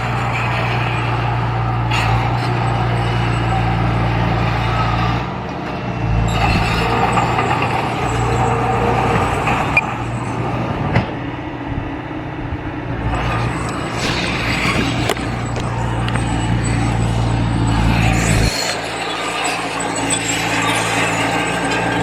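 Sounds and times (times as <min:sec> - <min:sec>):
large diesel engine running: 0:00.0 - 0:22.0.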